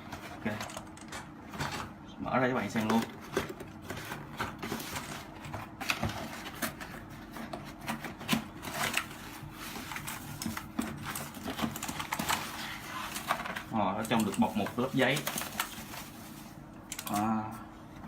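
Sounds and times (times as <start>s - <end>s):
cardboard packaging rustling: 2.6s - 17.3s.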